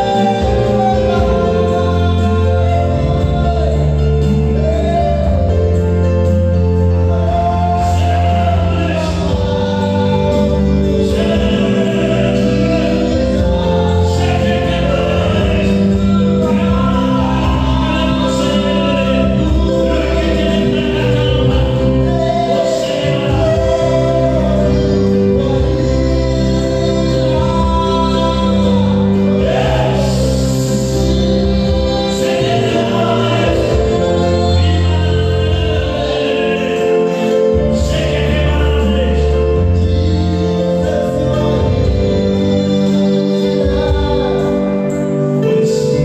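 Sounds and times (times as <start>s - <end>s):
group singing gospel: 0.0s - 46.0s
sustained keyboard and bass: 0.0s - 46.0s.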